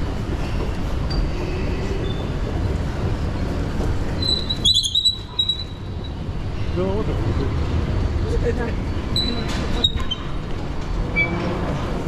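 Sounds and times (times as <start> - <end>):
station concourse low rumble: 0.0 - 12.0.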